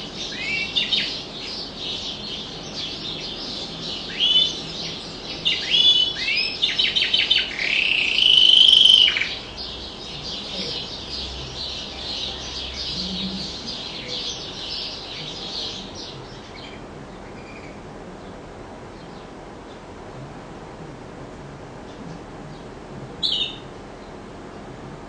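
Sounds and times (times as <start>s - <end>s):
canary singing: 0.0s - 17.8s, 21.9s - 24.2s.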